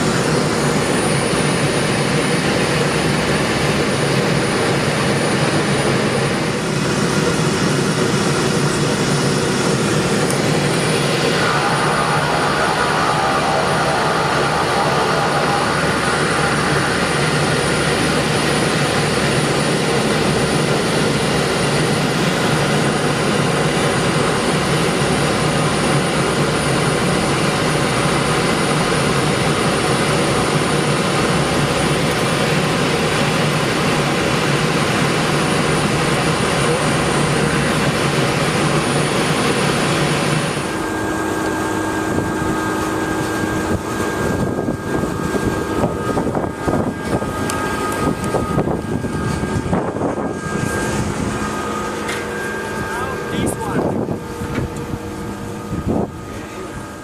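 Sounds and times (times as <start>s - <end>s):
airflow noise: 0.0s - 57.0s
turboprop engine and propeller: 0.0s - 57.0s.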